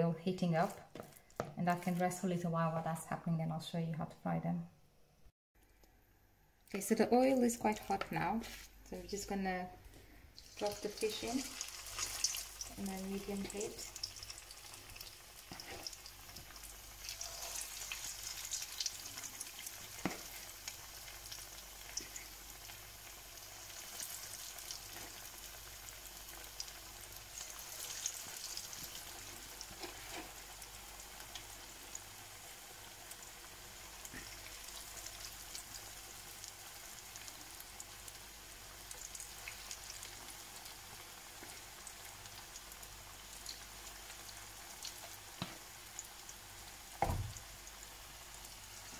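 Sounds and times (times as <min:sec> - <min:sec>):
fish deep-frying in hot oil: 0:09.1 - 0:48.9.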